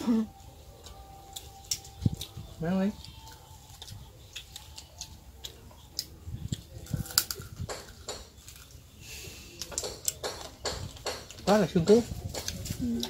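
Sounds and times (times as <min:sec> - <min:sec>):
chewing crisp food: 0:00.5 - 0:11.4.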